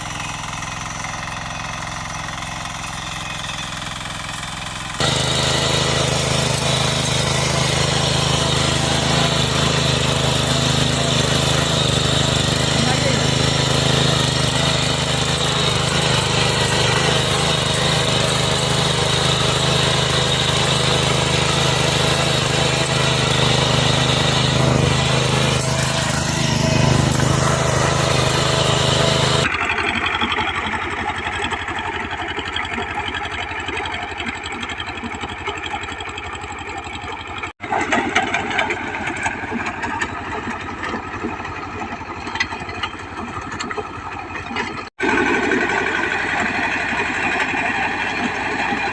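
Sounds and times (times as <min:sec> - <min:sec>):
walking tractor engine running: 0:00.0 - 0:48.9.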